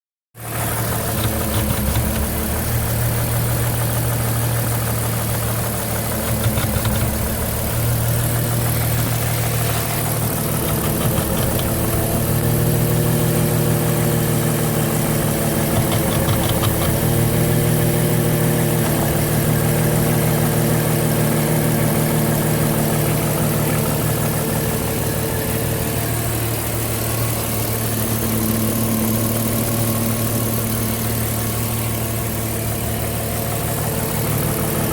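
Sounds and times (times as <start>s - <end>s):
car engine idling: 0.4s - 34.9s.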